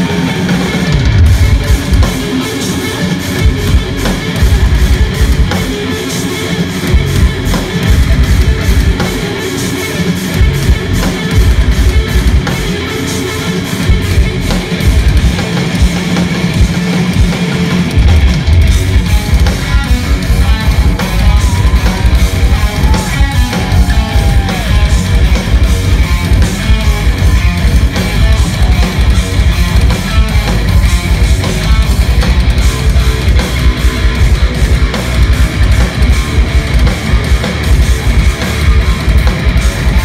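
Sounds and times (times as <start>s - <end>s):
metal band playing live: 0.0s - 40.0s.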